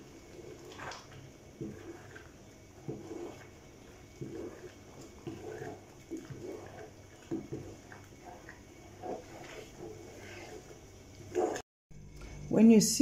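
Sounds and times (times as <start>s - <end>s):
stew bubbling in a pot: 0.0s - 11.6s
wooden spoon stirring: 0.0s - 11.6s.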